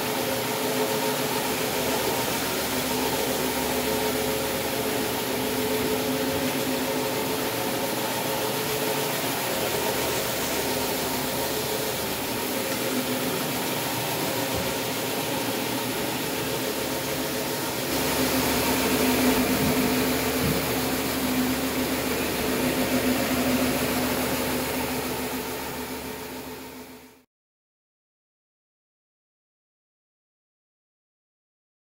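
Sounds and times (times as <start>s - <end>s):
carpet machine motor hum: 0.0s - 27.2s.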